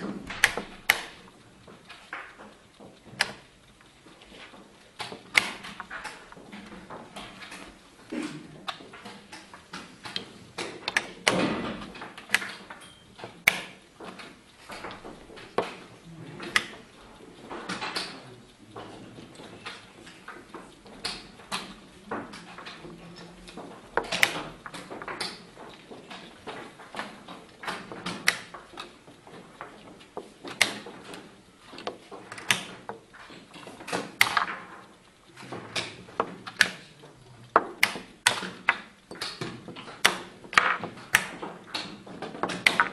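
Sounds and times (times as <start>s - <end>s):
chess pieces knocking on board: 4.2s - 7.8s, 8.6s - 18.1s, 18.7s - 36.8s, 37.5s - 42.9s.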